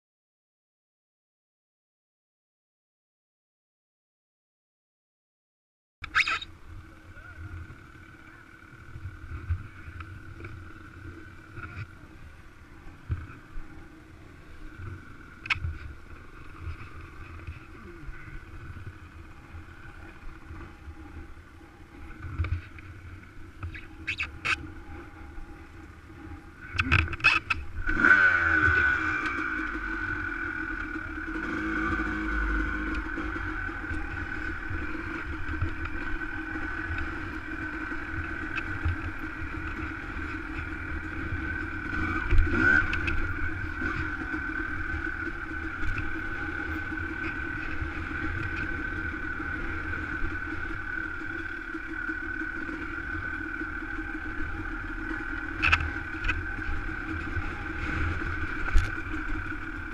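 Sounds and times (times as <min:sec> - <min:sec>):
dirt bike engine: 0:06.0 - 0:59.9.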